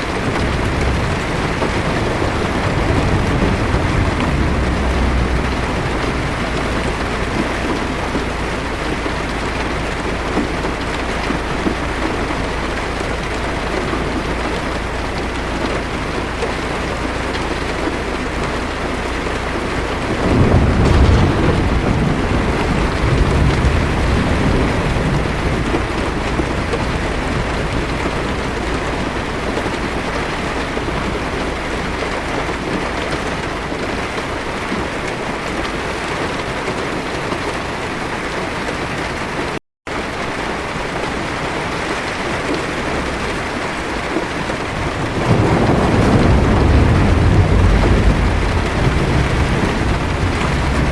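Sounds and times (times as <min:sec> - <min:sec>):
heavy rain on a car roof: 0:00.0 - 0:50.9
thunder rumbling: 0:00.0 - 0:50.9.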